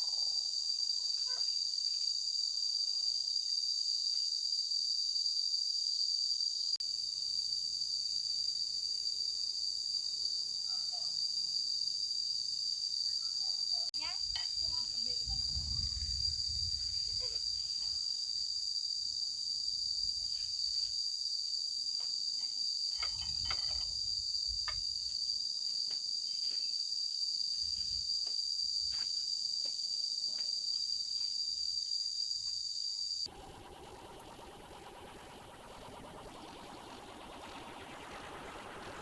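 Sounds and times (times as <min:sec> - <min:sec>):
insect chorus: 0:00.0 - 0:39.0.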